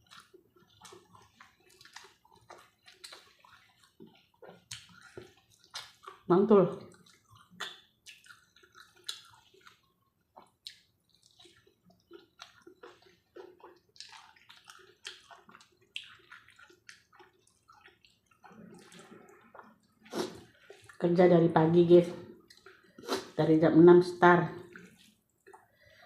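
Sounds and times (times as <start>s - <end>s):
wet mouth clicks and smacks: 0.0s - 6.2s, 6.9s - 21.0s, 22.4s - 23.4s, 24.7s - 26.0s
person chewing food: 0.0s - 21.0s, 22.3s - 23.4s, 24.6s - 26.0s.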